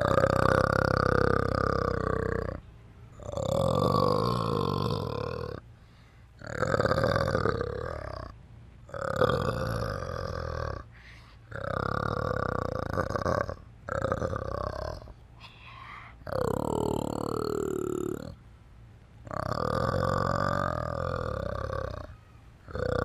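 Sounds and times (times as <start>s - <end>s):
animal giving rough low calls: 0.0s - 18.5s, 19.2s - 23.0s.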